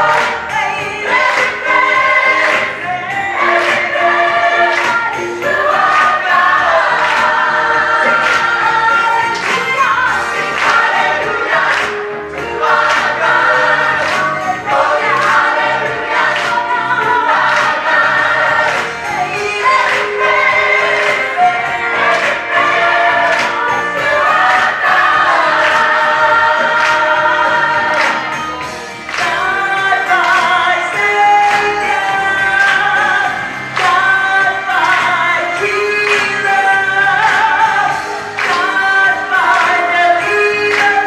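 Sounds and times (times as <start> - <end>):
gospel choir singing: 0.0 - 41.0.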